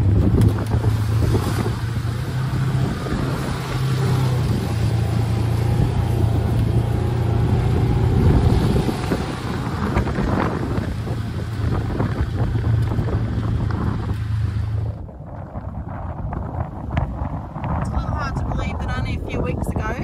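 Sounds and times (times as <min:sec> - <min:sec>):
vehicle engine humming: 0:00.0 - 0:19.8.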